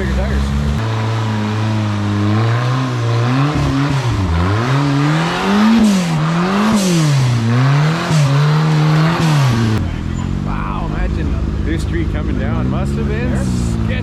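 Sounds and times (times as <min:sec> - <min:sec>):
buggy engine revving: 0:00.0 - 0:14.0.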